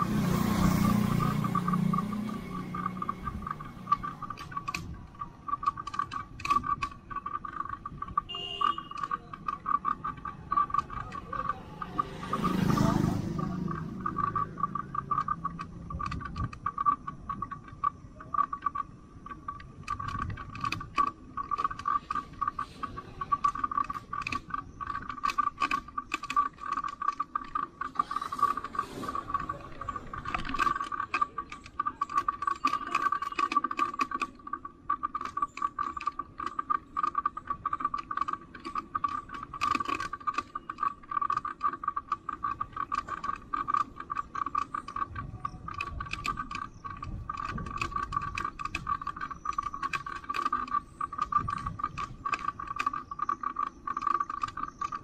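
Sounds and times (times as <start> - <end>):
bicycle freewheel ratcheting: 0.0 - 55.0
bike mechanical rattling: 0.0 - 55.0.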